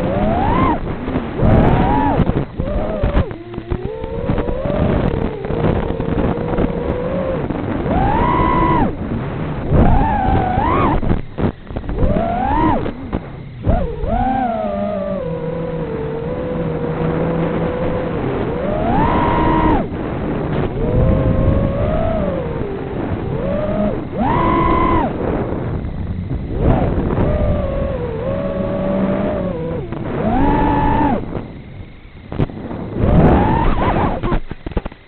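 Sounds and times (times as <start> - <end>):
quadcopter motors whining: 0.0 - 35.0
wind noise: 0.0 - 35.0.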